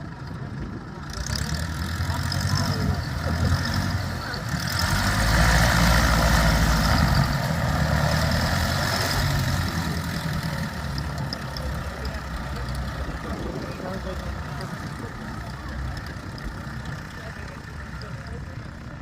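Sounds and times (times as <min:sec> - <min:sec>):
small plane engine and propeller: 0:00.0 - 0:19.0.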